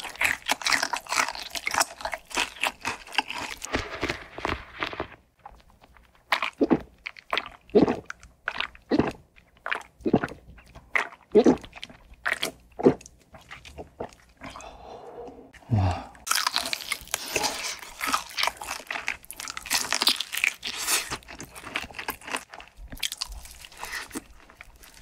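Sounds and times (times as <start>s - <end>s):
chewing crispy fried chicken: 0.0s - 14.6s, 16.2s - 25.0s.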